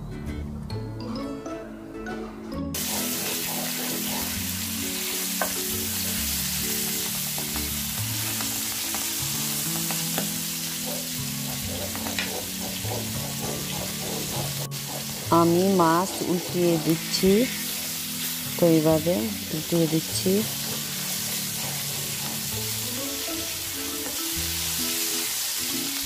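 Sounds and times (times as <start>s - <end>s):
fish sizzling in hot oil: 2.8s - 26.0s.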